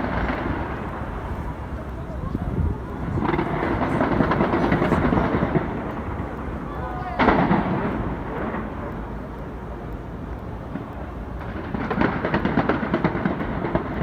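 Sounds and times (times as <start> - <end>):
fireworks booming: 0.0 - 9.0, 10.7 - 14.0
fireworks crackling: 0.0 - 14.0.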